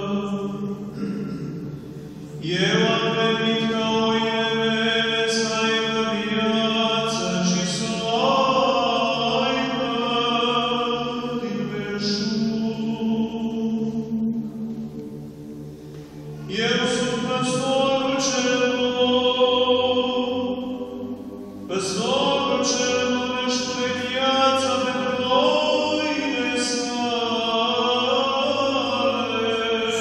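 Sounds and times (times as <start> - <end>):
man chanting: 0.0 - 1.6, 2.3 - 14.0, 16.4 - 20.6, 21.7 - 30.0.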